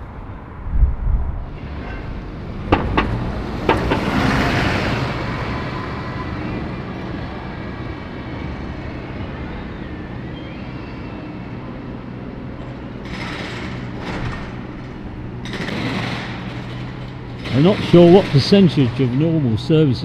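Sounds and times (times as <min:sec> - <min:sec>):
street traffic: 0:00.0 - 0:20.0
bus engine running: 0:02.1 - 0:20.0.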